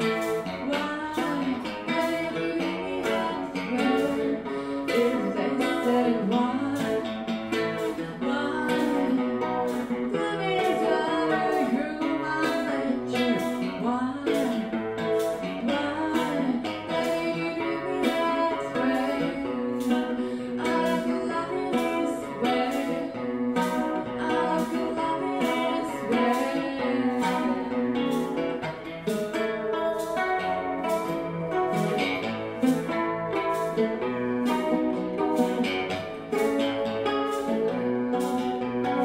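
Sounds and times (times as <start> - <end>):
guitar strummed and picked: 0.0 - 39.0
person singing: 0.0 - 39.0.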